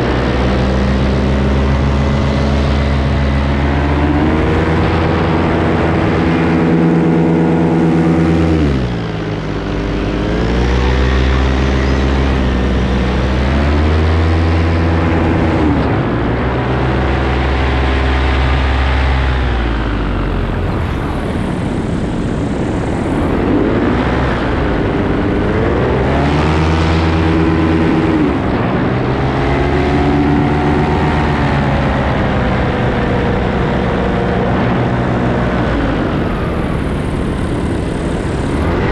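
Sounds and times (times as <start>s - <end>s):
paramotor engine rising and falling: 0.0s - 38.9s.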